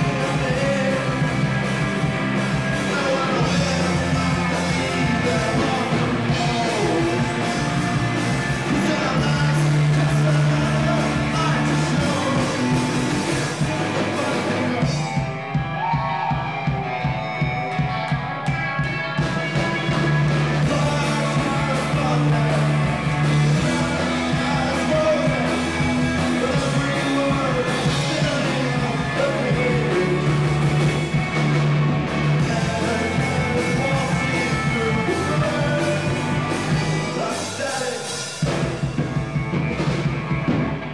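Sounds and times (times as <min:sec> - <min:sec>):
man singing: 0:00.0 - 0:15.6, 0:19.1 - 0:31.6, 0:32.3 - 0:39.2
bass guitar: 0:00.0 - 0:40.9
drum kit: 0:00.0 - 0:40.9
electric guitars: 0:00.0 - 0:40.9.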